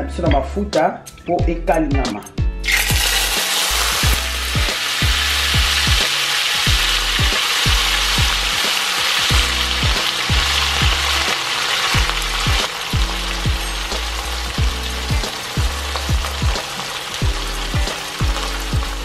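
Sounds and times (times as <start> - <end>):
music with steady bass beat: 0.0 - 11.4, 12.0 - 19.0
fish sizzling in oil: 2.6 - 19.0.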